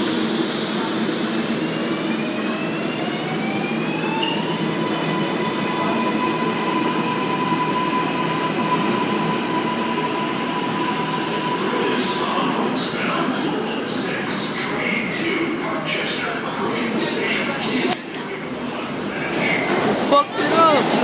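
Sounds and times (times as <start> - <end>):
rumble of train cars: 0.0 - 21.0
subway traction motors whining: 0.0 - 21.0.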